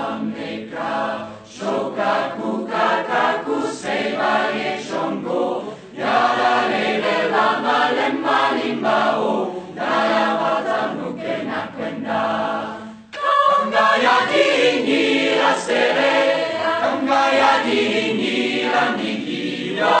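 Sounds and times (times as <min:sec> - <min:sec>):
choir singing a hymn: 0:00.0 - 0:20.0.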